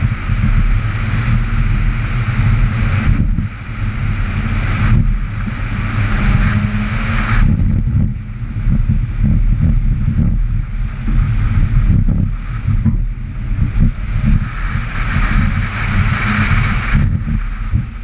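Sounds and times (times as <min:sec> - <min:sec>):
air rushing past car: 0:00.0 - 0:18.0
rotary engine revving: 0:00.0 - 0:18.0.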